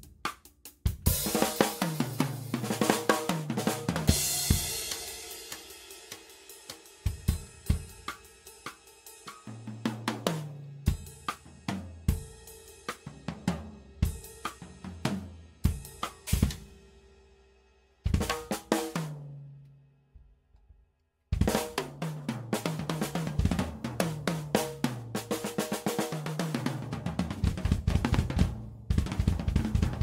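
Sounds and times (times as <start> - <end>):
drum kit groove: 0.0 - 17.0, 18.0 - 19.3, 21.3 - 30.0.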